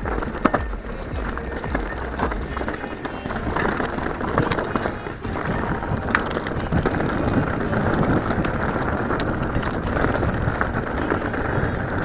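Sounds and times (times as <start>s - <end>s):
bike clicks and rattles: 0.0s - 12.0s
bike tyres on dirt trail: 0.0s - 12.0s
wind buffeting microphone: 0.0s - 12.0s.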